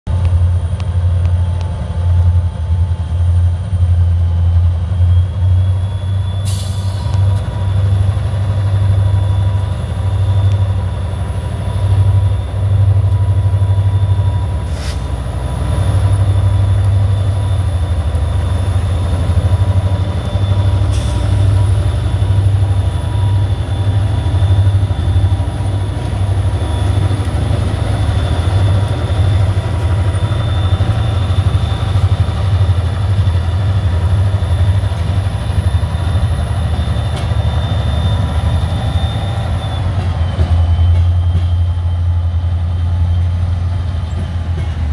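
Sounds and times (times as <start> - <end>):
diesel locomotive engines pulsing: 0.1 - 44.9
steady high whine: 0.2 - 43.9.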